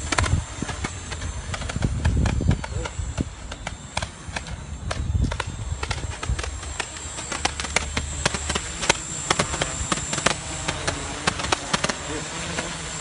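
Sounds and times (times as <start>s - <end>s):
drone motors whining: 0.0s - 13.0s
pyrotechnics crackling and popping: 0.0s - 13.0s.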